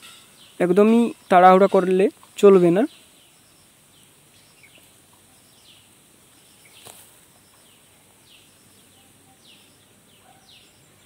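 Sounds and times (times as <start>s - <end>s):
faint birds chirping: 0.0s - 11.0s
low hiss: 0.0s - 11.0s.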